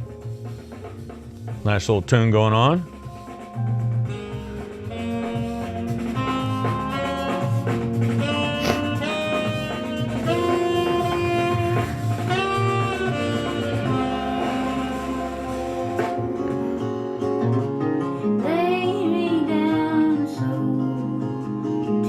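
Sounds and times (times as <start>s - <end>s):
instrumental music from portable speaker: 0.0s - 22.0s.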